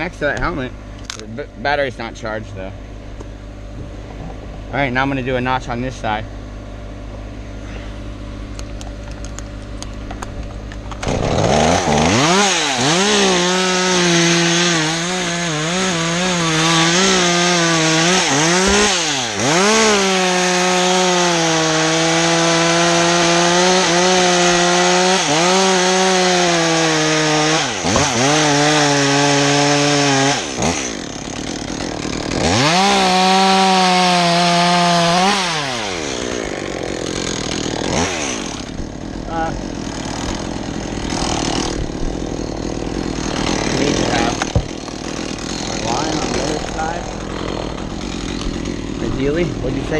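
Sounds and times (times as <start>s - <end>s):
chainsaw cutting wood: 7.6s - 49.9s.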